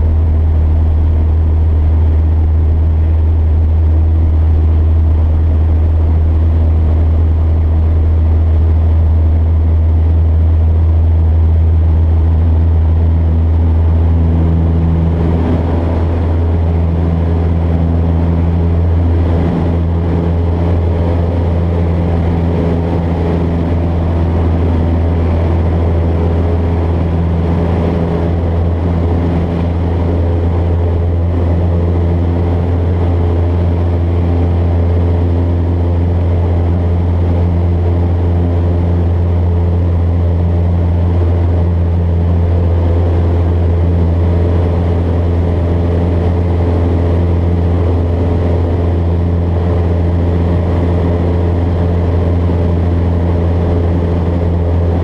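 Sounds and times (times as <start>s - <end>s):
airplane engine and propeller droning: 0.0s - 55.0s.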